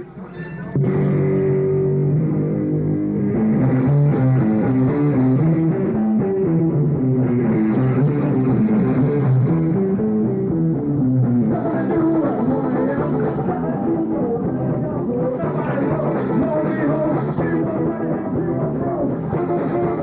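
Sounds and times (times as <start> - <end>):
electric guitar playing: 0.0 - 20.0
drum kit: 0.2 - 20.0.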